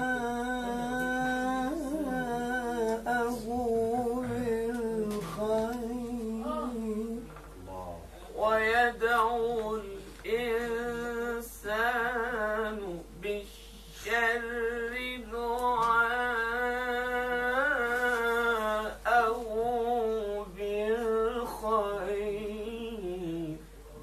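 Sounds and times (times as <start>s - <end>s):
man reciting in melodic chant: 0.0s - 24.0s.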